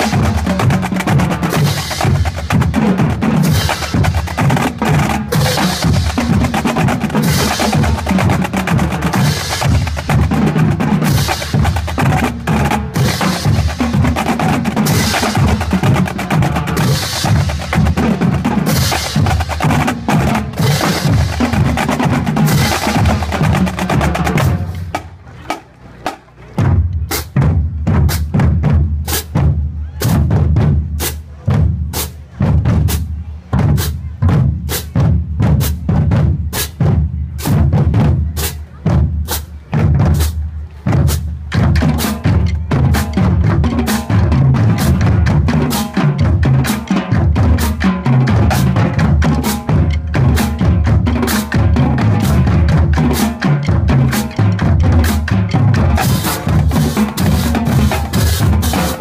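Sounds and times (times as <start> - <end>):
drumline playing: 0.0 - 59.0.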